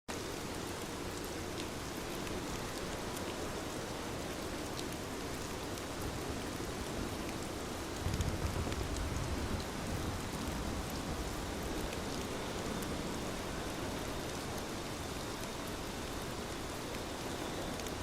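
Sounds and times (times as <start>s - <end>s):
faint ticks of raindrops: 0.1s - 18.0s
steady rainfall: 0.1s - 18.0s.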